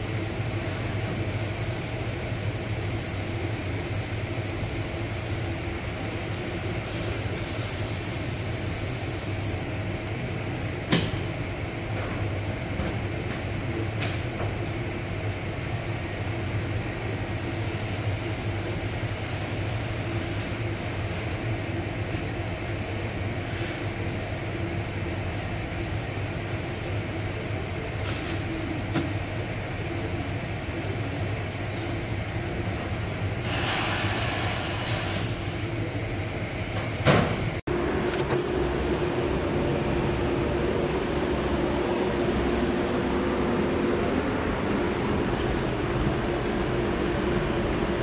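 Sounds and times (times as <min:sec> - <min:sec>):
mechanical hum with hiss: 0:00.0 - 0:48.0.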